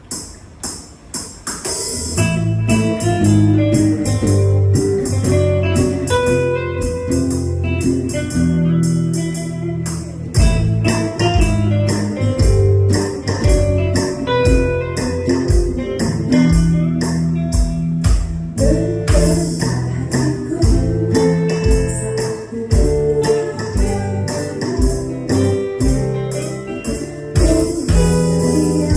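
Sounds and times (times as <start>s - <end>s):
pop band music: 1.2s - 28.9s.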